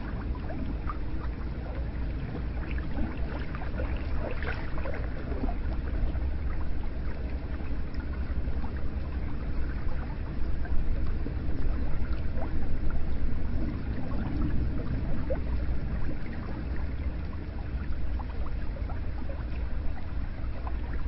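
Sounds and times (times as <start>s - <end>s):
water splashes and drips: 0.0s - 21.0s.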